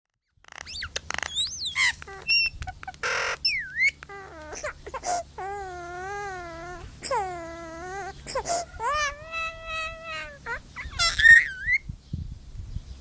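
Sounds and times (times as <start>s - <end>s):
myna imitating baby crying: 0.4s - 11.8s
myna bird calling: 0.4s - 11.9s.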